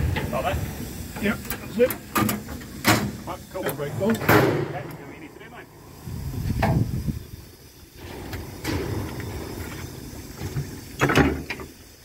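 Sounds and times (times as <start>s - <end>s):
steam locomotive low rumble: 0.0s - 12.0s.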